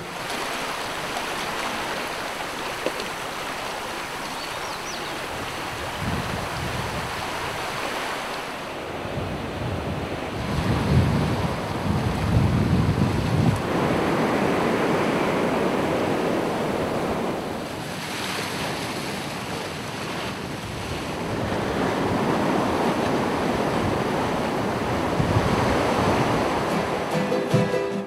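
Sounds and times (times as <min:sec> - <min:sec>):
wind rumbling on microphone: 0:00.0 - 0:27.2
ocean waves breaking: 0:00.0 - 0:28.0.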